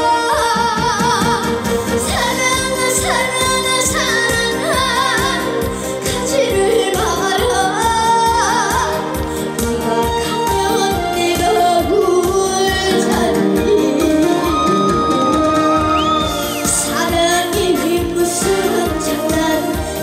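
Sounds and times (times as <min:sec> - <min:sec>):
backing track with steady beat: 0:00.0 - 0:20.0
woman singing with vibrato: 0:00.0 - 0:20.0.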